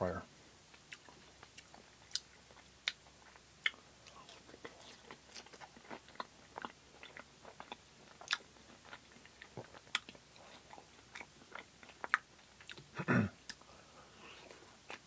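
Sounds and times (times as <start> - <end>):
chewing crunchy fries: 0.7 - 13.7, 14.4 - 15.0.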